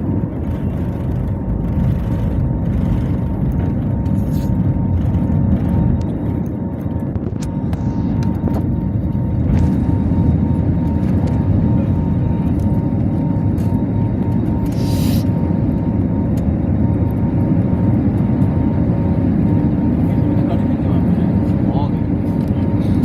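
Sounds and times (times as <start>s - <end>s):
engine and airflow rumble: 0.0s - 23.0s.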